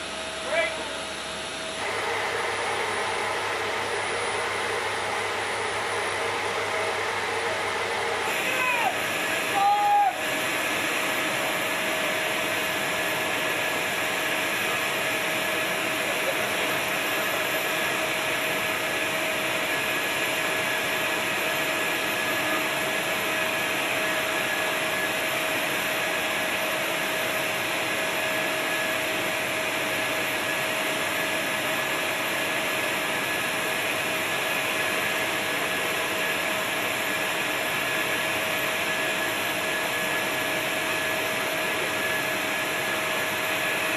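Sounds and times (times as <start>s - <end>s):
turbine rushing with high whine: 0.0s - 43.9s.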